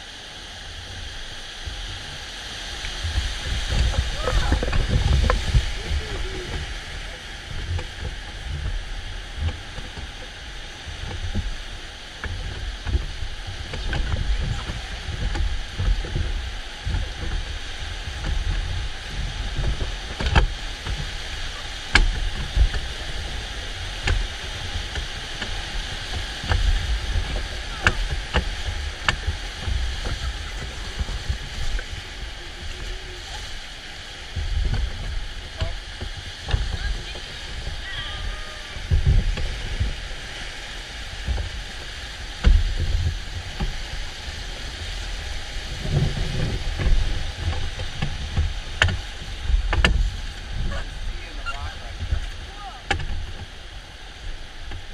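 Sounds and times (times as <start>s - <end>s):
whitewater rapids rushing: 0.0s - 54.9s.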